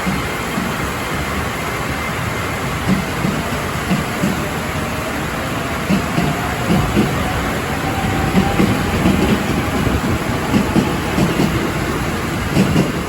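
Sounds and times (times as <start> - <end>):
train wheels clattering over rails: 0.0 - 13.0.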